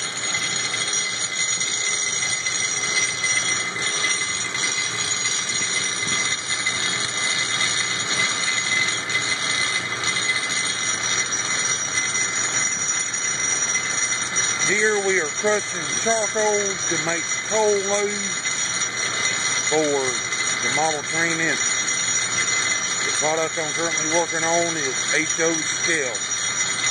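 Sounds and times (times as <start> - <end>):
high-pitched metallic ringing: 0.0 - 26.9
rock crusher grinding rattle: 0.0 - 26.9.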